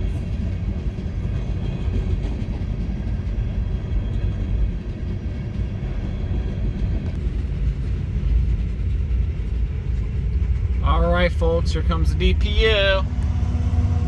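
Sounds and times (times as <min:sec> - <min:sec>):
freight train wheels rumbling on rail: 0:00.0 - 0:14.0.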